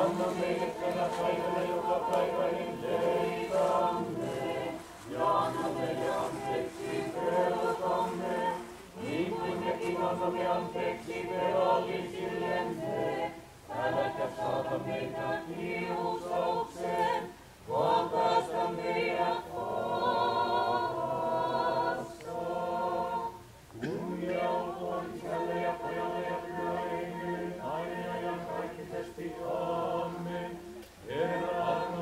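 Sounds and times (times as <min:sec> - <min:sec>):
choir singing unaccompanied chant: 0:00.0 - 0:32.0.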